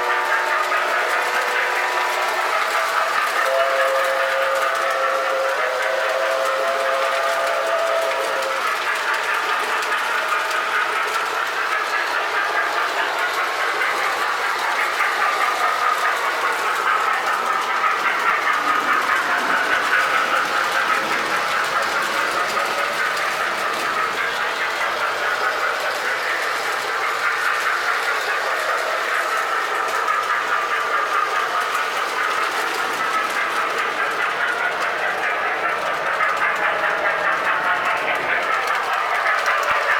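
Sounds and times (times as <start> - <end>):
toy train motor hum: 0.0 - 39.9
wheels clicking over rail joints: 0.0 - 39.9.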